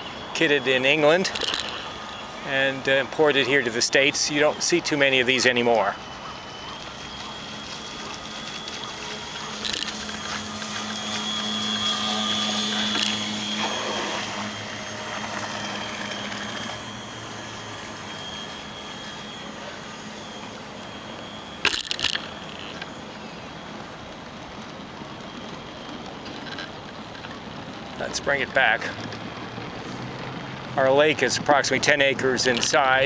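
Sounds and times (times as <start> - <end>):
model boat motor hum and whine: 0.0 - 33.0
crackles of noise: 0.1 - 33.0.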